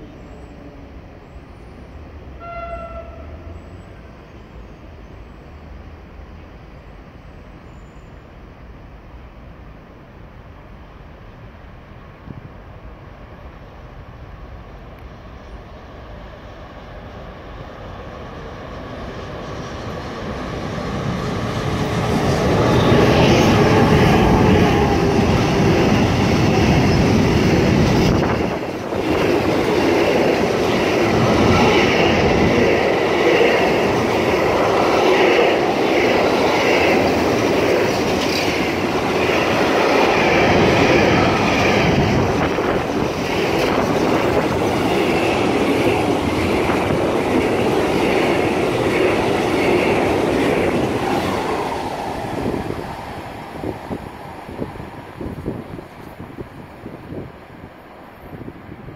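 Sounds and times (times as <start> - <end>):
freight train rumbling past: 0.0 - 58.9.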